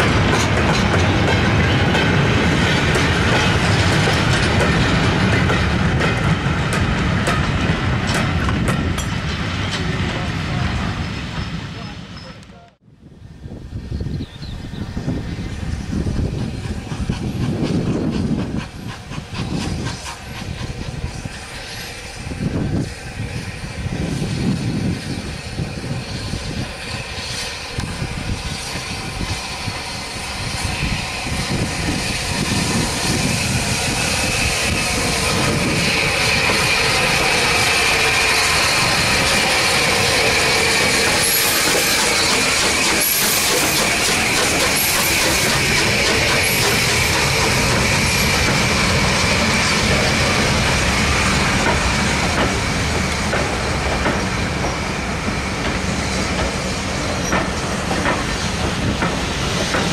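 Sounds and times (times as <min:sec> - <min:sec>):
steam locomotive beats: 0:00.0 - 0:12.7, 0:14.8 - 0:59.9
steam hiss and rolling train: 0:00.0 - 0:59.9.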